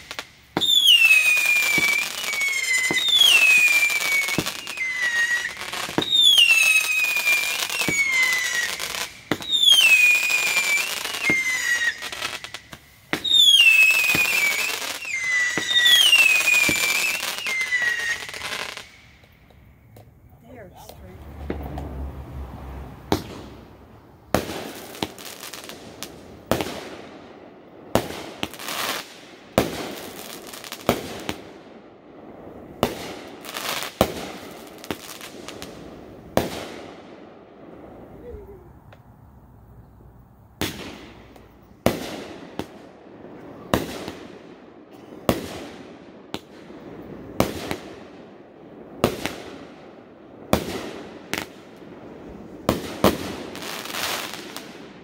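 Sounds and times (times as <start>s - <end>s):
fireworks bangs with echoing rumble: 0.0s - 39.1s, 40.6s - 55.0s.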